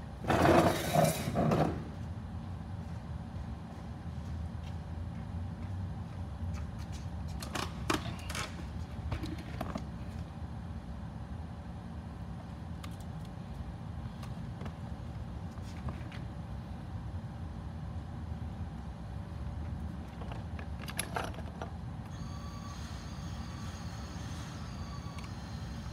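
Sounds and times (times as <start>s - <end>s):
low hum and rumble: 0.0s - 25.9s.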